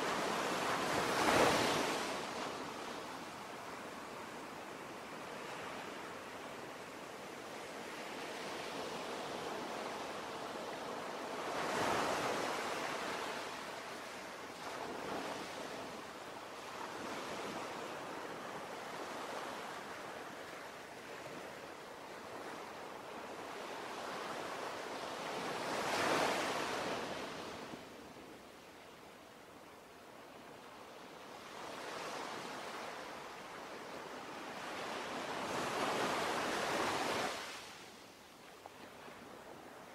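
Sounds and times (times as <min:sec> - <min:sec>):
waves washing in and out: 0:00.0 - 0:39.9.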